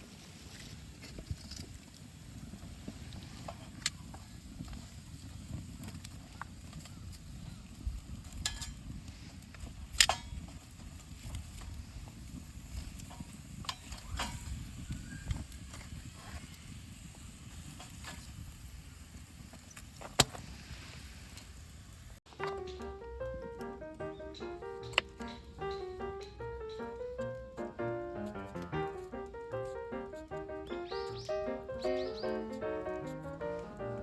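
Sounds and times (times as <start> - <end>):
sharp clicks and crackles: 0.6 - 16.5, 22.3 - 34.0.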